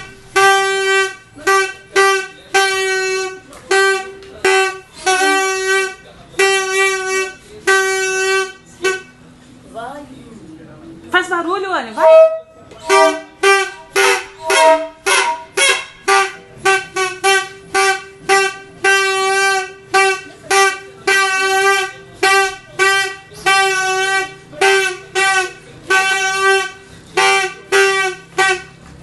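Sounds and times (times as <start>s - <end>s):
plastic toy trumpet tooting: 0.0s - 9.2s, 12.0s - 28.8s.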